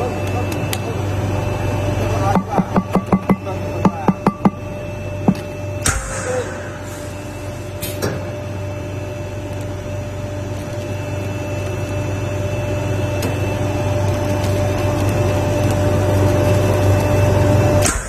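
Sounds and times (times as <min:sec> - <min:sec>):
machine hum with whining tone: 0:00.0 - 0:18.0.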